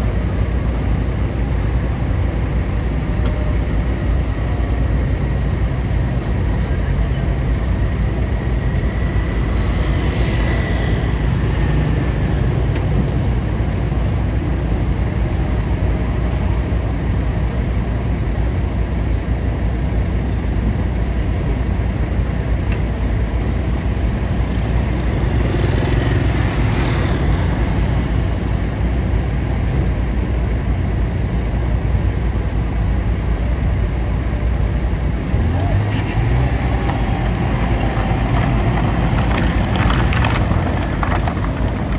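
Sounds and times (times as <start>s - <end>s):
vehicle engine rumbling: 0.0s - 41.9s.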